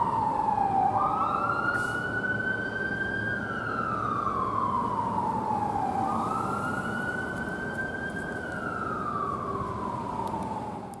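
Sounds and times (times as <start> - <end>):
fire engine siren wailing: 0.0 - 11.0
low rumble of engine and traffic: 0.0 - 11.0.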